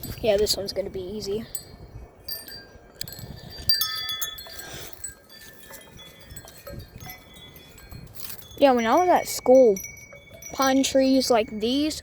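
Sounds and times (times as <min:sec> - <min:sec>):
wind chime tubes clinking: 0:00.0 - 0:12.0
wind rumble on microphone: 0:00.0 - 0:12.0.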